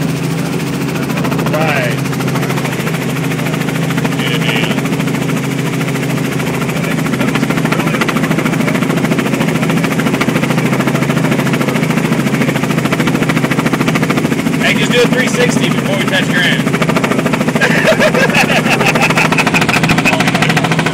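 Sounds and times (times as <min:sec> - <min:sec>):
helicopter rotor and turbine drone: 0:00.0 - 0:20.9.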